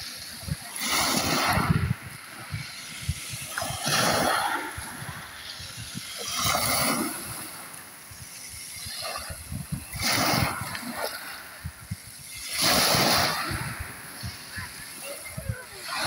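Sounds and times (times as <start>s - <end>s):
waves splashing on stony shore: 0.0s - 16.0s.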